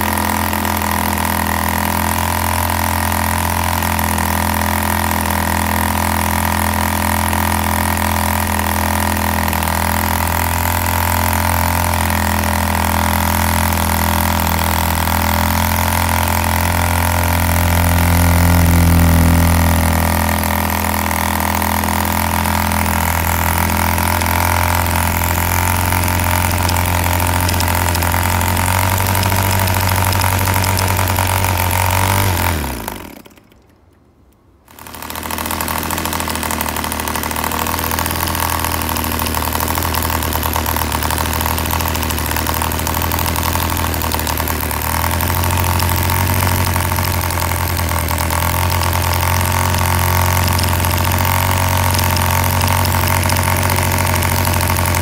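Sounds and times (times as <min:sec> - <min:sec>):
model engine buzzing: 0:00.0 - 0:34.0, 0:34.7 - 0:55.0.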